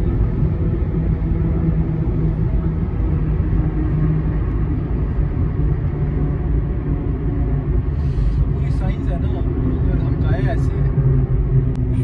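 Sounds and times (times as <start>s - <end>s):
road noise in moving car: 0.0s - 12.0s.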